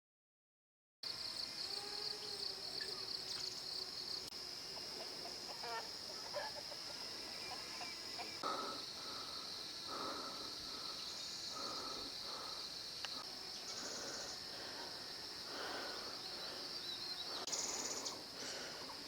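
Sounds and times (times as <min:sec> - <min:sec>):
insects shrilling: 0:01.6 - 0:19.0.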